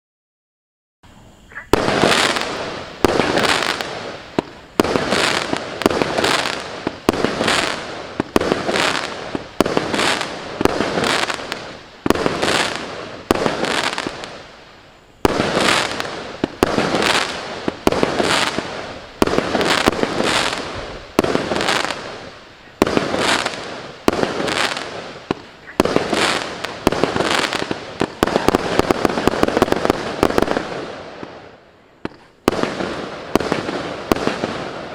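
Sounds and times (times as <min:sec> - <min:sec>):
rapid firework cracks: 0:01.5 - 0:14.5, 0:15.2 - 0:34.9
firework cake bangs with crackle: 0:01.8 - 0:14.4, 0:15.2 - 0:31.4, 0:32.0 - 0:34.9.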